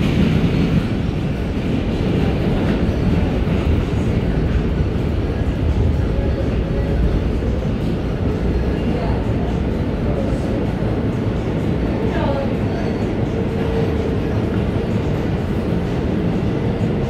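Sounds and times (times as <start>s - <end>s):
subway car rumbling in tunnel: 0.0s - 17.0s.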